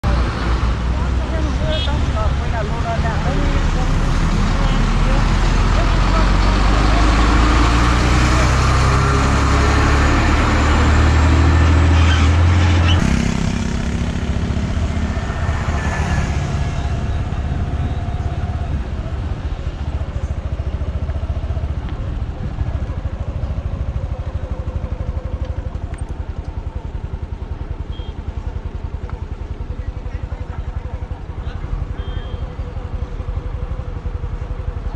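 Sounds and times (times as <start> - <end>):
deep engine drone: 0.0 - 34.9
road noise: 0.0 - 34.9
vehicle engine running: 0.0 - 34.9.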